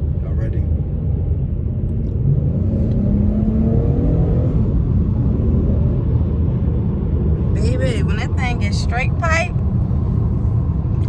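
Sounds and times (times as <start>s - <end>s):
low rumble of road and exhaust: 0.0s - 11.0s
car engine accelerating hard: 2.0s - 11.0s.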